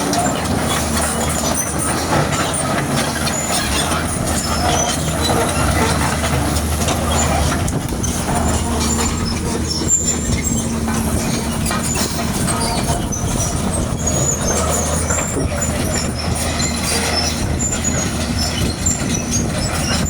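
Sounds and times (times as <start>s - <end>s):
excavator engine running: 0.0s - 20.0s
steel tracks squeaking and clanking: 0.0s - 20.0s.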